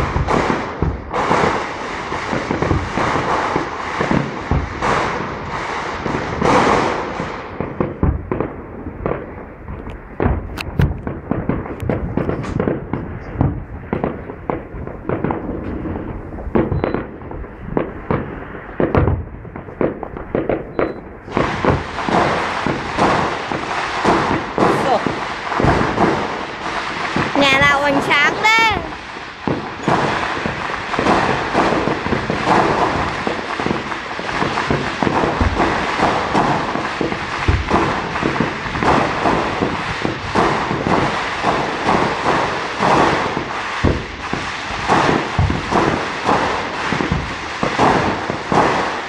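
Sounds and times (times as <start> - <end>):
firework shells bursting: 0.0 - 49.0
fireworks crackling: 0.0 - 49.0.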